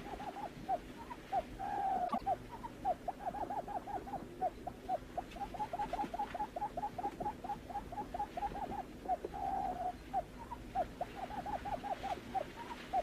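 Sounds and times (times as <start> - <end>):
buttonquail hooting calls: 0.0 - 13.0.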